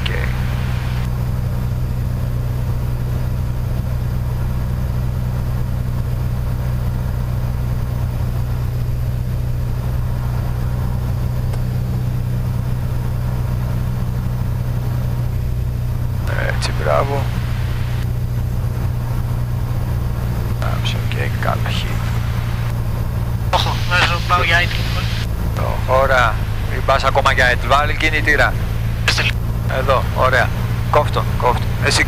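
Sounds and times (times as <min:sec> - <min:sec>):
aircraft engine and propeller droning: 0:00.0 - 0:32.0.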